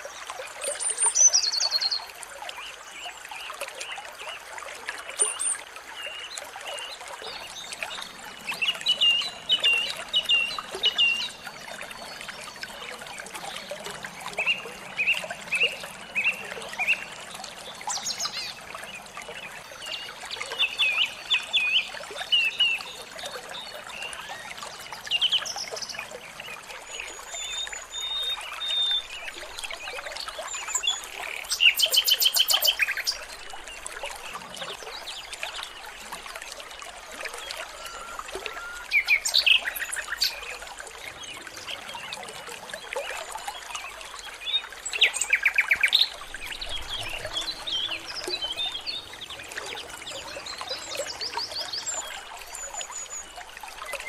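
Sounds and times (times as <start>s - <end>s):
running water trickling: 0.0s - 54.0s
songbirds chirping: 5.1s - 54.0s.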